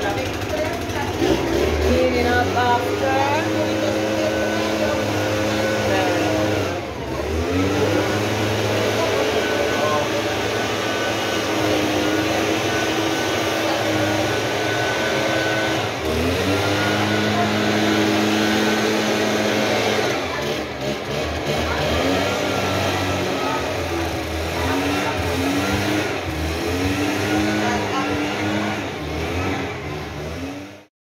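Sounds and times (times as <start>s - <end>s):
leaf blower engine running: 0.0s - 30.9s.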